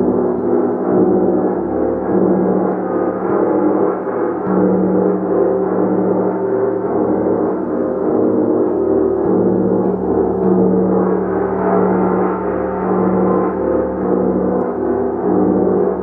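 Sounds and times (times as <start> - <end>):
gong ringing: 0.0 - 16.0.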